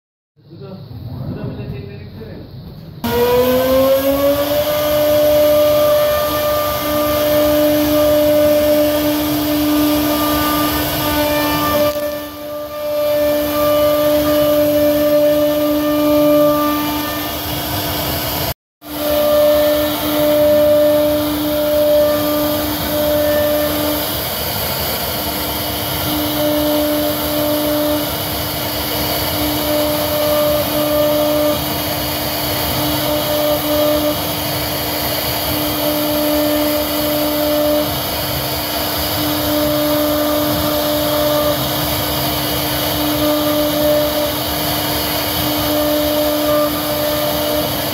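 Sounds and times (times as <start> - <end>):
router motor whine: 3.0 - 47.9.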